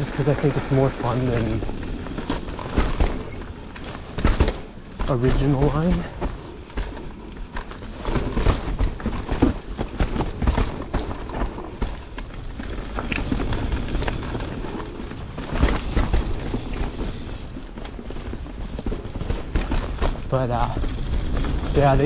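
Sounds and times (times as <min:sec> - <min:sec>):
bike rattling over bumps: 0:00.0 - 0:22.0
bike tyres on dirt trail: 0:00.0 - 0:22.0.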